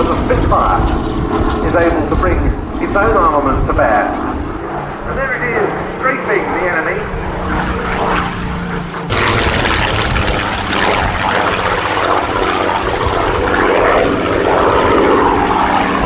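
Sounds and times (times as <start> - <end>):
piston aircraft engine at high power: 0.0 - 16.0.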